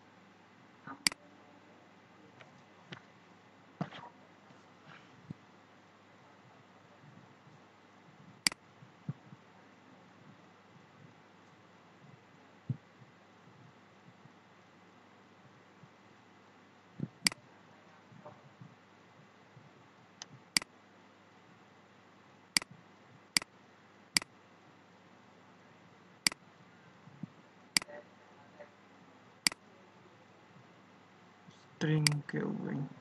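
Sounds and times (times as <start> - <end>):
faint background hiss: 0.0 - 33.0.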